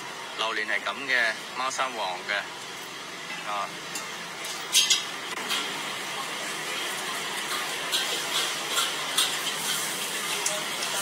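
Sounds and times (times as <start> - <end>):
market background noise: 0.0 - 11.0.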